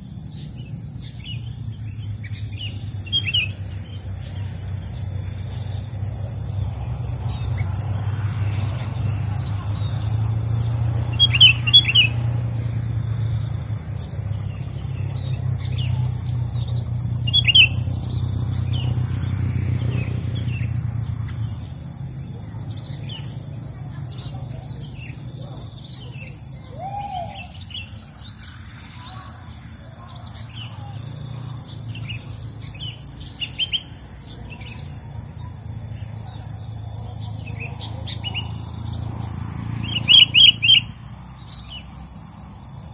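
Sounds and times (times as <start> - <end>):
bulbuls chirping: 0.0 - 42.9
high insect drone: 0.0 - 42.9.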